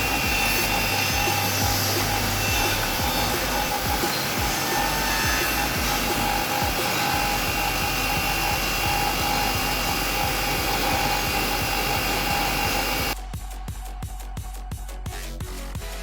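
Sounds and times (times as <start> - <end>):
woodworking machine motors whirring: 0.0 - 13.2.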